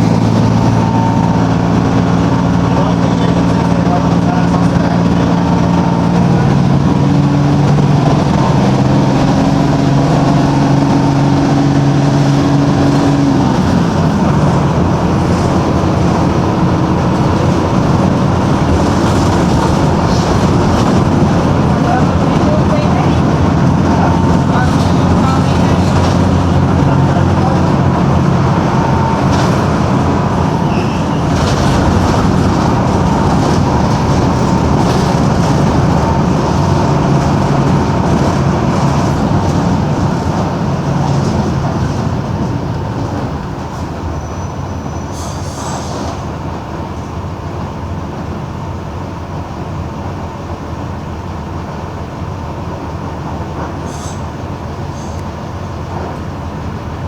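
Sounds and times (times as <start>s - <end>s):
bus diesel engine under load: 0.0s - 57.0s.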